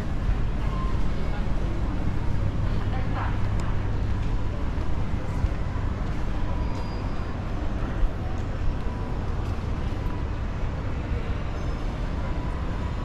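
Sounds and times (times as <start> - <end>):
faint indistinct voices: 0.0 - 13.0.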